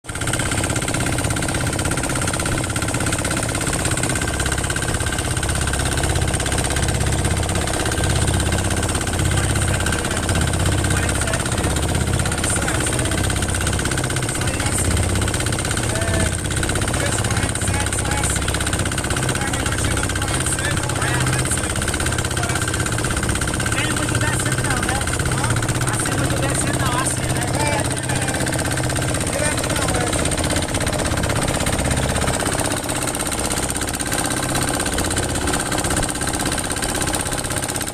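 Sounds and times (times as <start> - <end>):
engine running with whine: 0.0 - 37.9.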